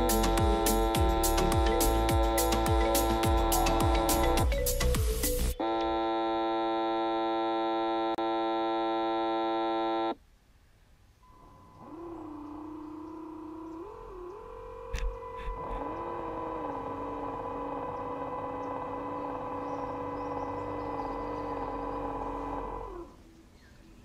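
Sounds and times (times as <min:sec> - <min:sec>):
small electric motors whining: 0:00.0 - 0:04.6, 0:05.4 - 0:10.2, 0:11.8 - 0:23.1.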